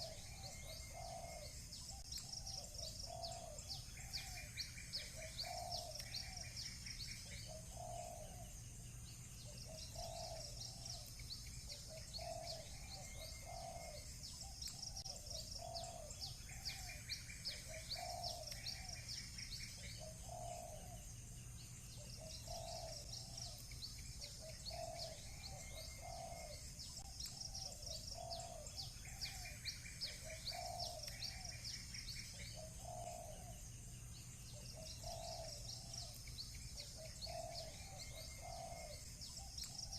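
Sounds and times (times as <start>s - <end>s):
doves cooing: 0.0s - 8.6s, 9.4s - 21.1s, 21.9s - 33.7s, 34.5s - 39.9s
small birds chirping: 0.0s - 39.9s.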